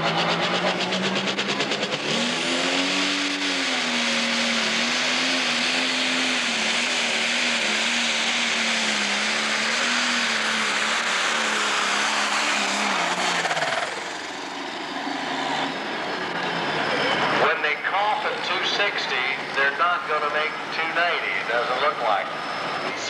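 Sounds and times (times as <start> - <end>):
diesel tractor engine revving: 0.0 - 23.0.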